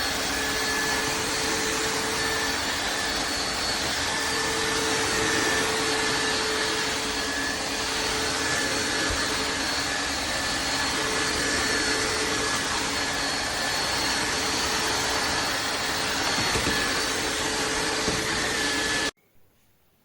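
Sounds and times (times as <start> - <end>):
floor cleaner motor and suction: 0.0 - 19.2.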